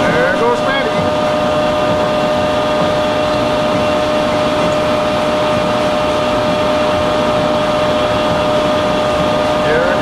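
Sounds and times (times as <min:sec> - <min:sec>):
machine hum with whine: 0:00.0 - 0:10.0.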